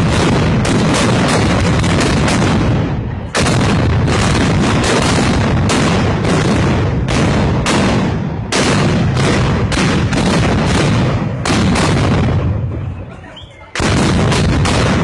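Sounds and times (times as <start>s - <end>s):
blank gunshots echoing: 0.0s - 13.0s, 13.8s - 15.0s.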